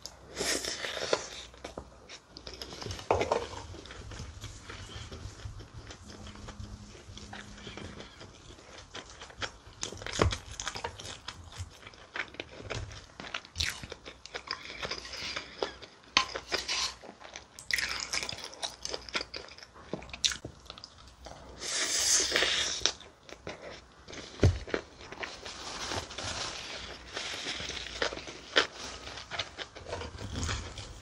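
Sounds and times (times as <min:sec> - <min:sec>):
chewing and crunching food: 0:00.0 - 0:31.0.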